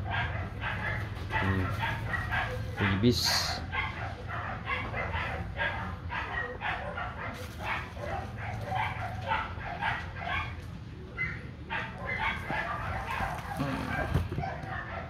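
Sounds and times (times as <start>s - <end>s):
dog barking and yipping: 0.0s - 15.0s.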